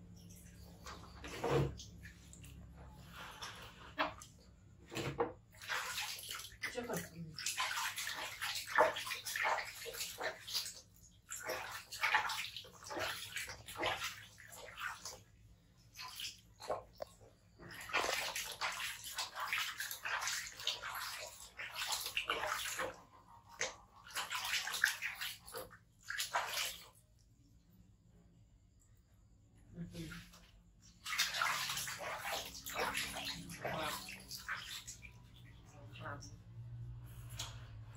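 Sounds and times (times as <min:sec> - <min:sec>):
water splashing in plastic basin: 0:00.0 - 0:27.2, 0:29.8 - 0:37.9.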